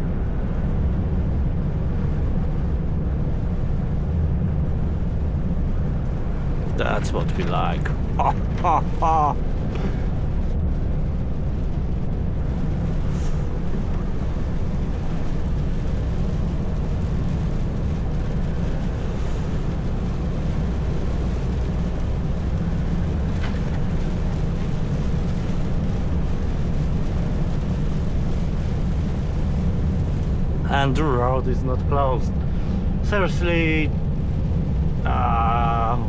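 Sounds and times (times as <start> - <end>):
truck engine and road drone: 0.0 - 36.0.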